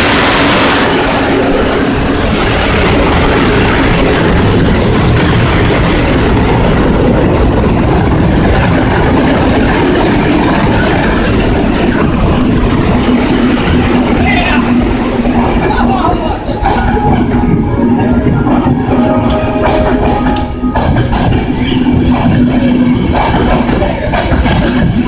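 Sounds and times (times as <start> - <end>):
electric locomotive pulling train: 0.0 - 25.0
train wheels rushing on rails: 0.0 - 25.0.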